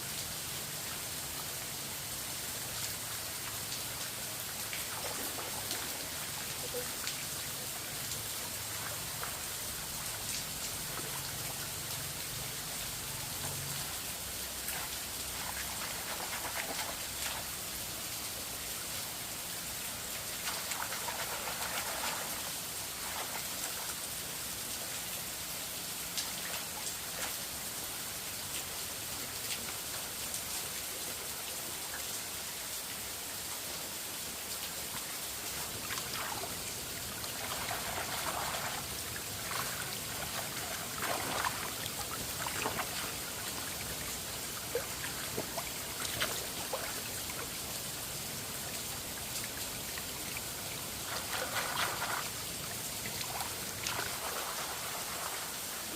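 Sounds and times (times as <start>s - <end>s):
running water hiss: 0.0s - 55.9s
water drips and splashes: 0.0s - 55.9s.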